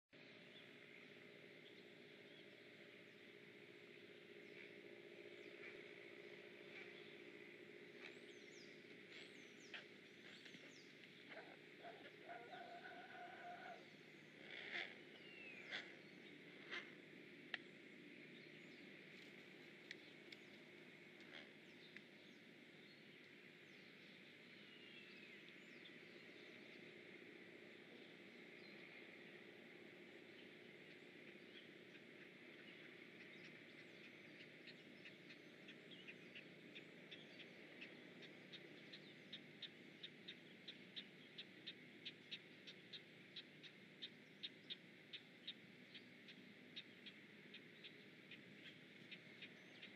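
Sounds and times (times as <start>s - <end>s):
distant bird chirps: 0.2s - 49.9s.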